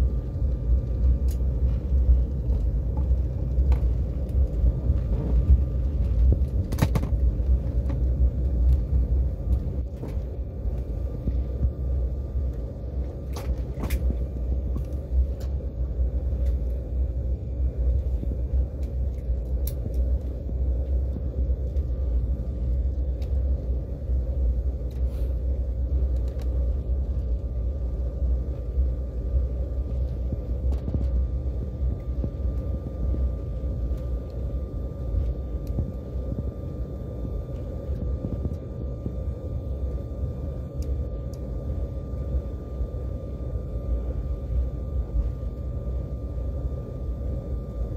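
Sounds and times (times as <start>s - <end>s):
faint steady whine: 0.0s - 47.9s
low rumble of engines and wheels: 0.0s - 47.9s.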